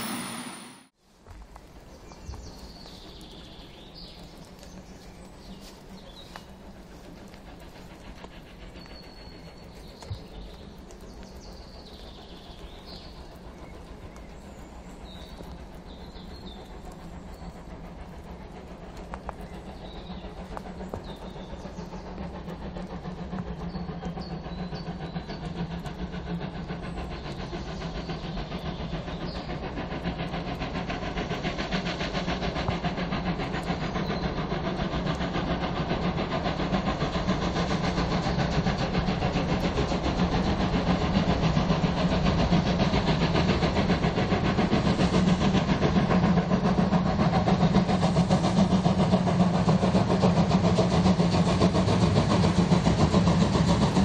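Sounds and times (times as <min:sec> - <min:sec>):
steam train rushing: 0:00.0 - 0:54.0.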